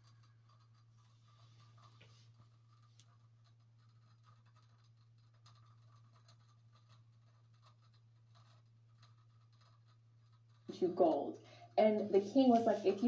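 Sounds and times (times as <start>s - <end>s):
faint ticks: 0.0s - 10.8s
faint low hum: 0.0s - 13.0s.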